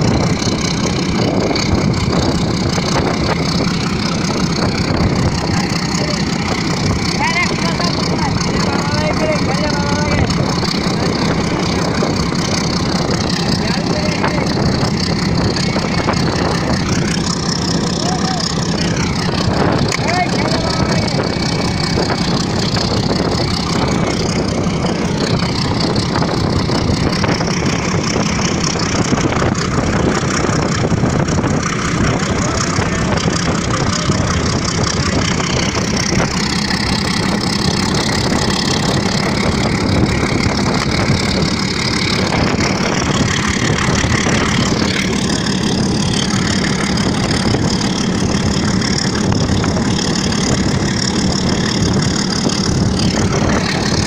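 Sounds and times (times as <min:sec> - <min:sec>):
train running noise: 0:00.0 - 0:54.0
wind buffeting microphone: 0:00.0 - 0:54.0.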